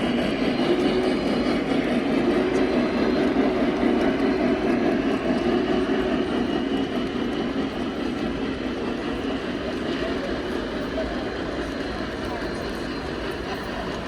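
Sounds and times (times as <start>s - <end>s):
indoor hall background rumble: 0.0s - 14.0s.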